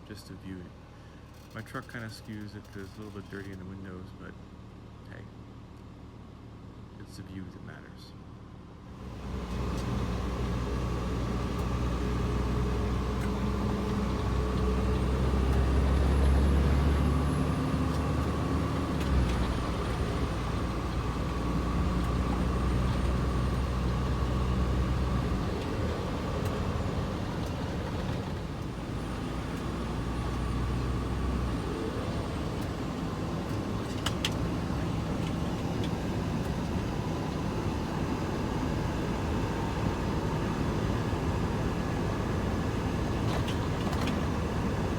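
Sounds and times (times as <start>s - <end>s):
truck engine drone: 0.0s - 44.9s
road noise: 7.8s - 44.9s.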